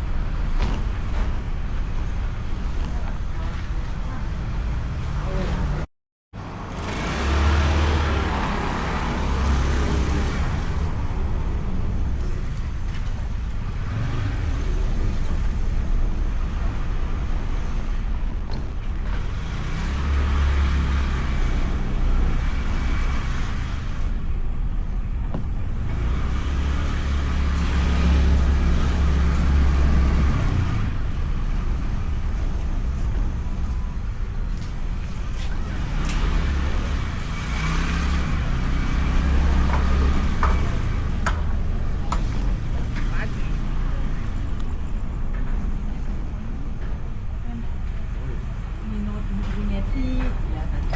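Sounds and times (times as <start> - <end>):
road and wind noise: 0.0 - 50.9.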